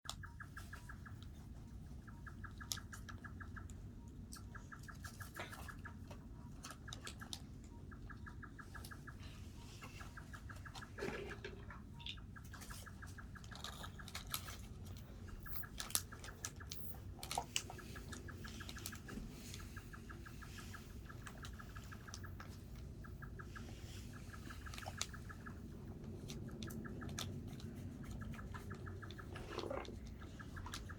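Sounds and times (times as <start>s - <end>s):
squirrel clicks and scratches: 0.1s - 30.9s.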